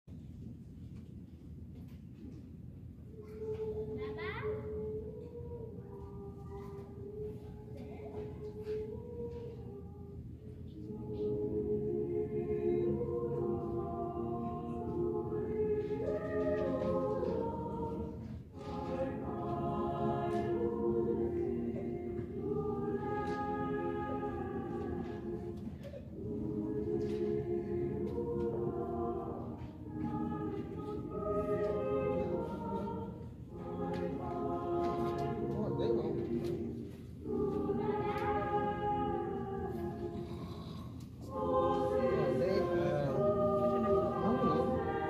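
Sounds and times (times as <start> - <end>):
choir singing a cappella: 3.2 - 45.0.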